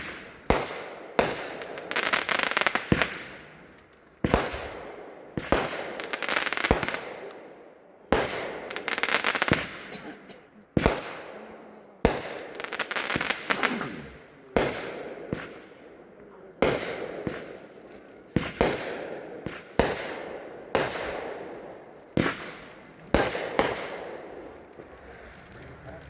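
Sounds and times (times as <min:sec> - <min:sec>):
firework crackling: 0:00.0 - 0:07.4, 0:08.1 - 0:10.0, 0:10.8 - 0:11.3, 0:12.0 - 0:15.7, 0:16.6 - 0:26.0
firework bangs: 0:00.0 - 0:15.9, 0:16.6 - 0:26.0.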